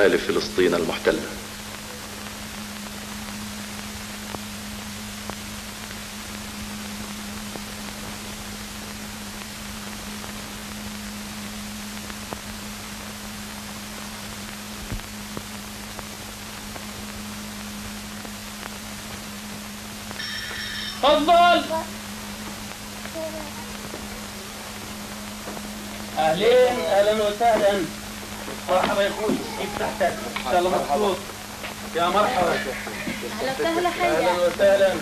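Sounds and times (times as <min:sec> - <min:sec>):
constant low hum: 0:00.0 - 0:35.0
film soundtrack hiss: 0:00.0 - 0:35.0.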